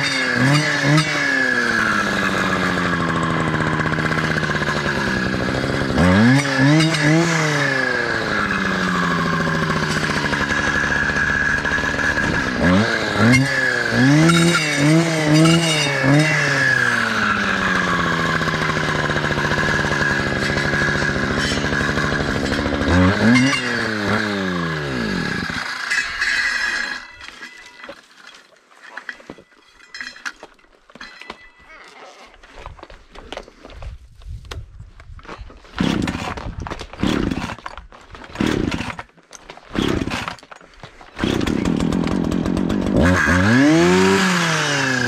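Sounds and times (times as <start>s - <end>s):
clearing saw revving: 0.0s - 27.9s, 35.7s - 45.0s.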